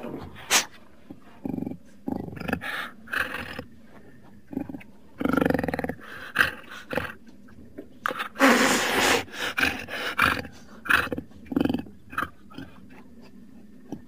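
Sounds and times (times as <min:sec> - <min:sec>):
jaguar snarling and grunting: 0:00.0 - 0:03.8, 0:04.4 - 0:07.2, 0:08.1 - 0:13.1.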